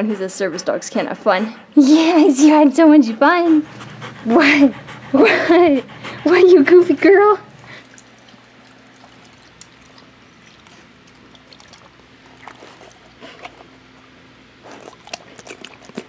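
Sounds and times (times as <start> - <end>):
dog panting and licking: 0.0 - 14.0, 14.6 - 16.0.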